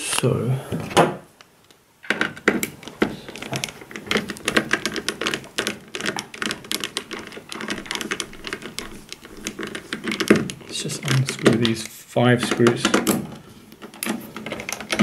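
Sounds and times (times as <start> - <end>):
rapid irregular clicking: 1.7 - 15.0
screwdriver turning a screw: 2.1 - 15.0.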